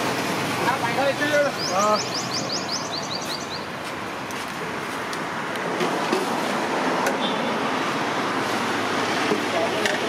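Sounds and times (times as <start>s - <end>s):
roadside traffic noise: 0.0s - 10.0s.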